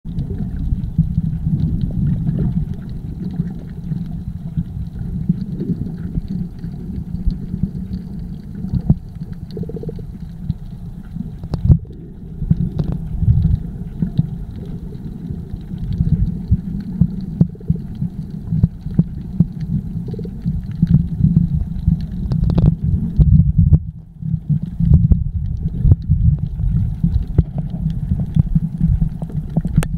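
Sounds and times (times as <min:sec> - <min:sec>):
muffled underwater rumble: 0:00.0 - 0:29.9.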